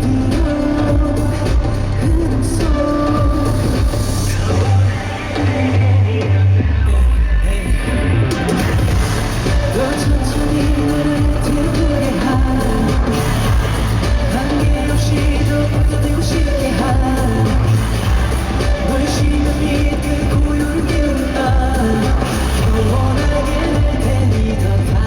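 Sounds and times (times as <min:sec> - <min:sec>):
heavy bass beat: 0:00.0 - 0:25.0
man singing: 0:00.0 - 0:25.0
pop song over sound system: 0:00.0 - 0:25.0.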